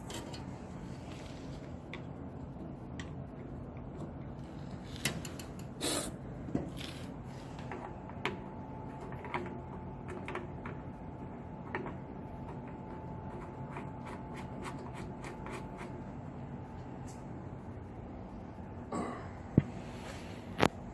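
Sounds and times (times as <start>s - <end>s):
thin steady whine: 0.0s - 20.9s.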